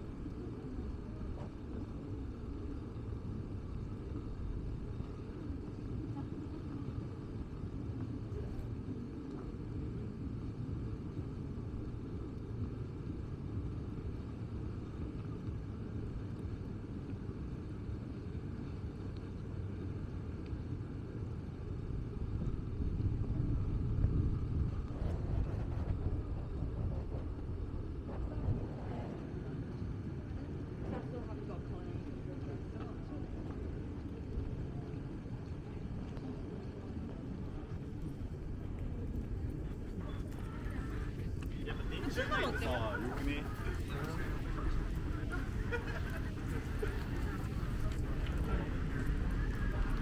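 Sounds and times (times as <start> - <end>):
distant traffic rumble: 0.0 - 50.0.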